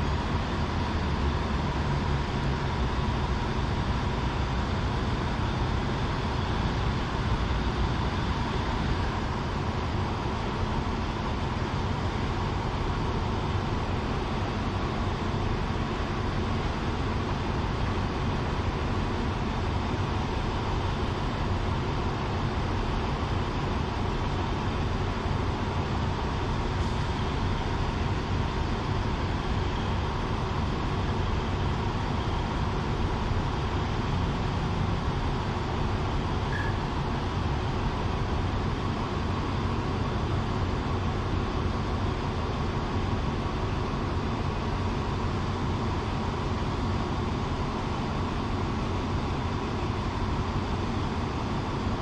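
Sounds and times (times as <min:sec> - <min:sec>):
diesel train engine running: 0:00.0 - 0:52.0.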